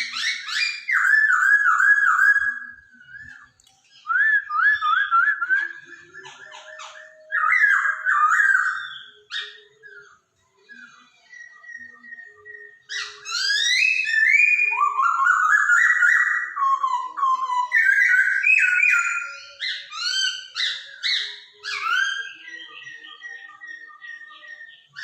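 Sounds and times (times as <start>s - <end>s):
bird whistled song: 0.0s - 25.0s.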